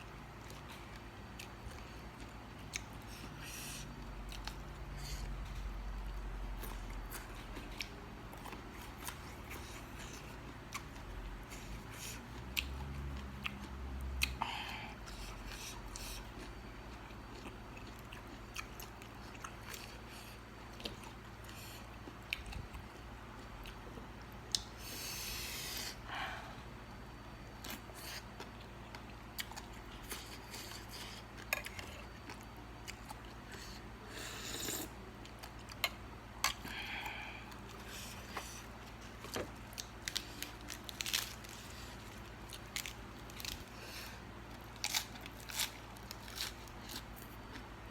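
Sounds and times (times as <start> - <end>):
chewing and crunching food: 0.0 - 26.3, 27.1 - 47.9.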